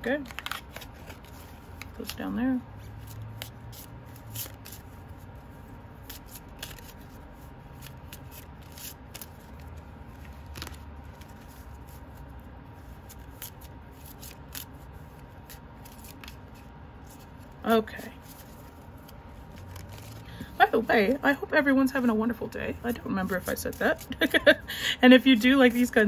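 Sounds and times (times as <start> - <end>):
cards being shuffled by hand: 0.1 - 24.7.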